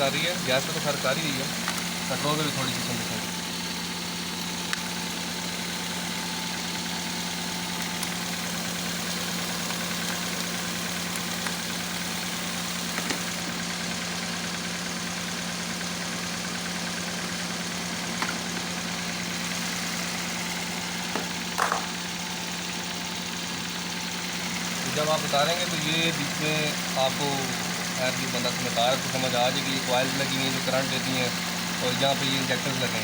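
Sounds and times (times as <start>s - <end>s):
car engine idling and misfiring: 0.0s - 33.0s.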